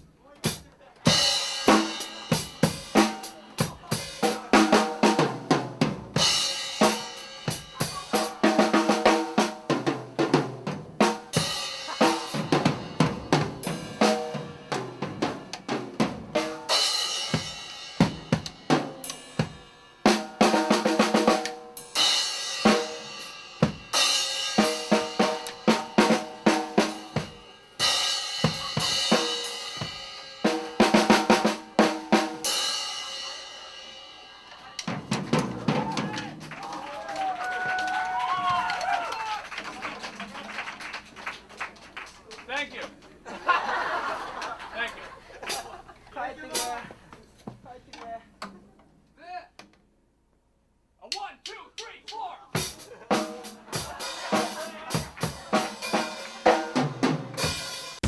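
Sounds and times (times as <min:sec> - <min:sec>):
drum kit playing: 0:00.0 - 0:39.0, 0:45.3 - 0:47.1, 0:51.0 - 0:58.0
band instruments: 0:00.0 - 0:42.0, 0:51.1 - 0:58.0.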